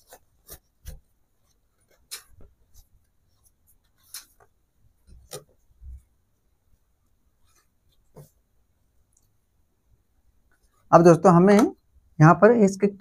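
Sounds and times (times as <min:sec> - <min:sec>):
fabric rustling: 0:00.0 - 0:10.9.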